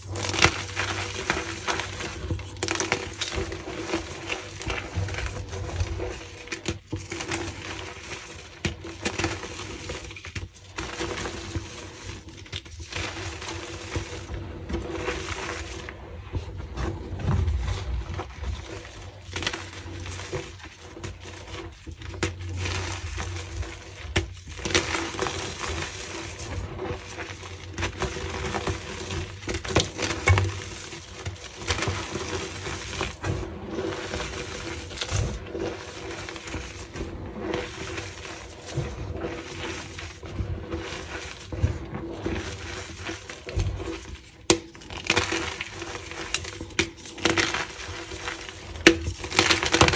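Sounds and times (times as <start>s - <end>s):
hands crumbling chalk: 0.0s - 16.0s, 16.7s - 49.9s.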